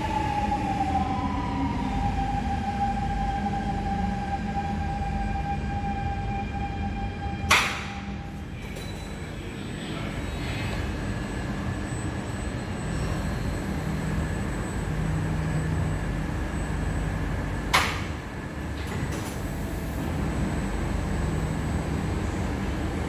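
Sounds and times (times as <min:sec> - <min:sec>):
train rolling into station: 0:00.0 - 0:23.0.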